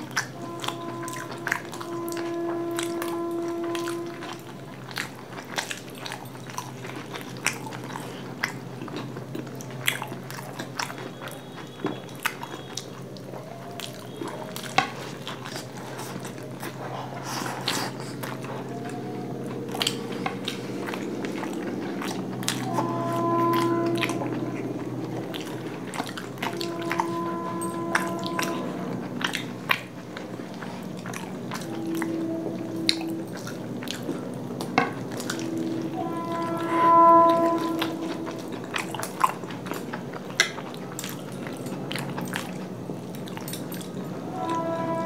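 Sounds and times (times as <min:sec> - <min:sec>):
chewing mouth clicks and smacks: 0:00.0 - 0:22.8, 0:24.0 - 0:27.2, 0:27.9 - 0:35.7, 0:37.6 - 0:44.2.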